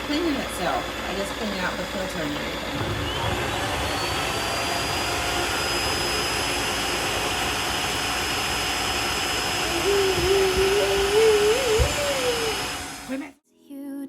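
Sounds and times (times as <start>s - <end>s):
vacuum motor whine: 0.0s - 13.3s.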